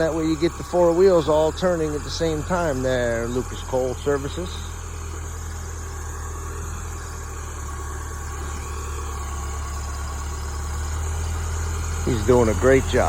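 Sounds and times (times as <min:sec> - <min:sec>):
backhoe engine running: 0:00.0 - 0:13.0
thin steady squeal: 0:00.0 - 0:13.0.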